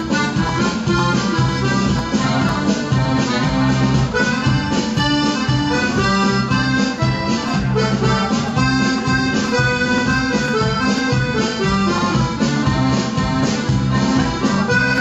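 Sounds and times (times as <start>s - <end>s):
accordion dance band: 0.0s - 15.0s
steady bass beat: 0.0s - 15.0s.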